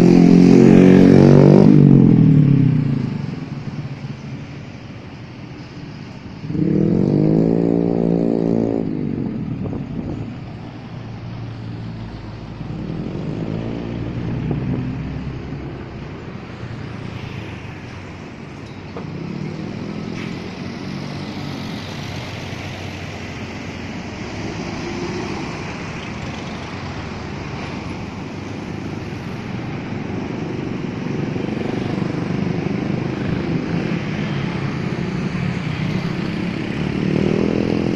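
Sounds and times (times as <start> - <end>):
motorcycles passing by: 0.0 - 37.9
road traffic: 0.0 - 37.9.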